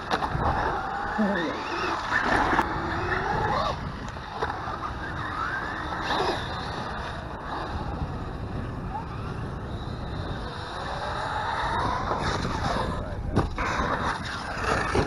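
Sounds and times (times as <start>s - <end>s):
electric rc car motors whining: 0.0s - 15.0s
wind rumbling on microphone: 0.0s - 15.0s.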